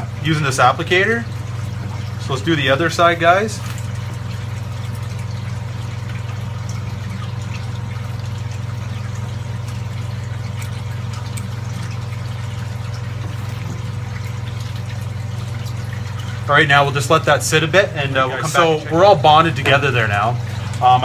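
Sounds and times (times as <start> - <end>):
aquarium pumps humming: 0.0 - 21.0.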